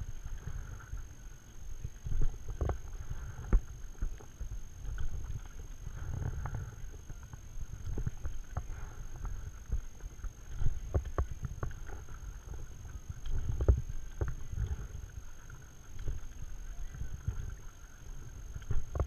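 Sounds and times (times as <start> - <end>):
paddle dipping in water: 0.0 - 19.0.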